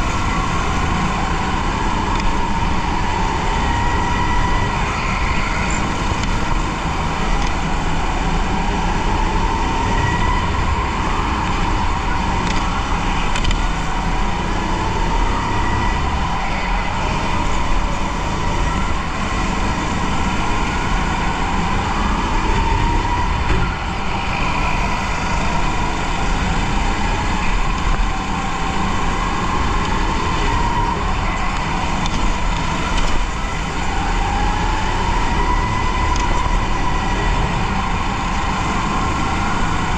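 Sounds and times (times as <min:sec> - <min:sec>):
go-kart motor whine: 0:00.0 - 0:39.9
tyres rumbling on track: 0:00.0 - 0:39.9.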